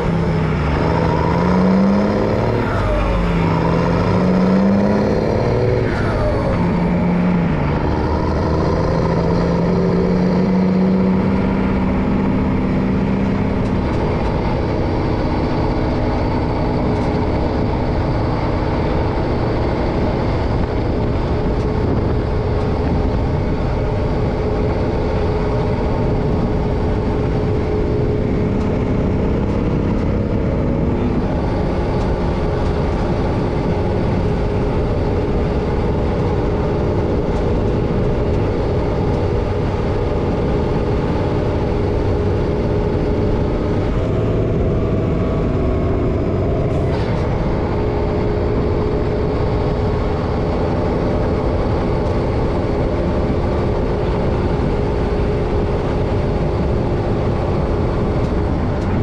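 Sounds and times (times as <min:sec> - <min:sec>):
road noise: 0:00.0 - 0:59.0
truck diesel engine running: 0:00.0 - 0:59.0.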